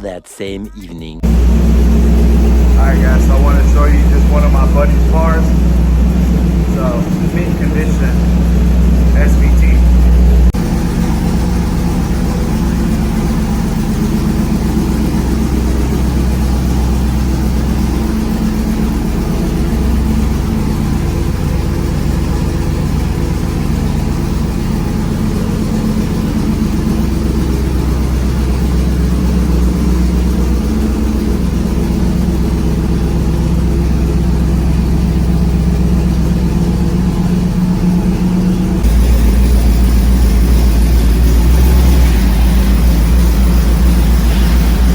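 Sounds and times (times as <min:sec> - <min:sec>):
car engine running: 0:00.8 - 0:44.9.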